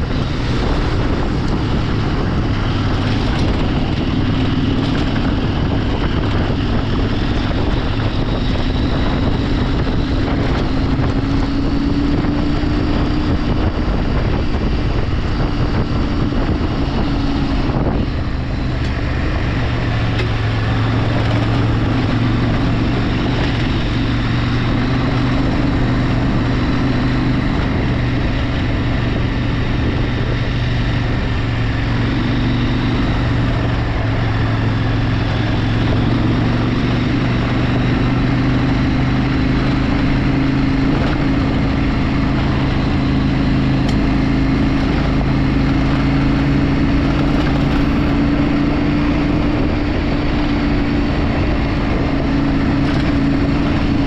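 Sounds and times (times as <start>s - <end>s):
constant rushing noise: 0.0s - 54.0s
vehicle engine running: 0.0s - 54.0s.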